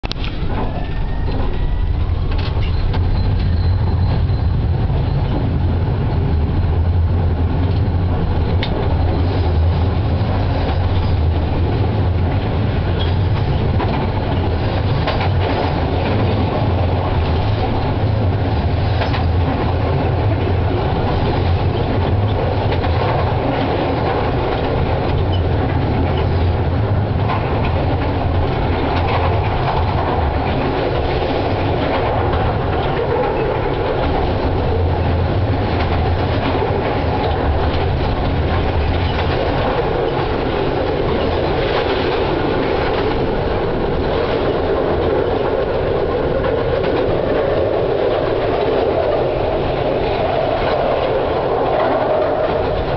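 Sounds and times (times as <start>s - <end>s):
steel wheels rumbling on rails: 0.0s - 52.9s
tram motors humming: 0.0s - 52.9s.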